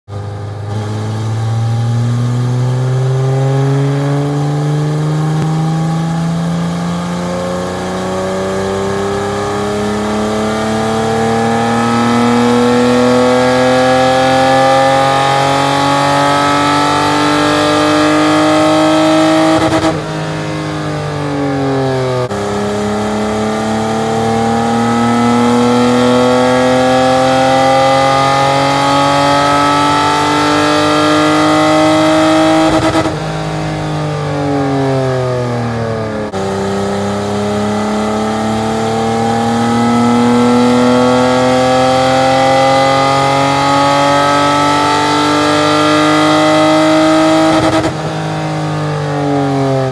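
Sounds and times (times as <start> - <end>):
race car engine revving: 0.2 - 49.9.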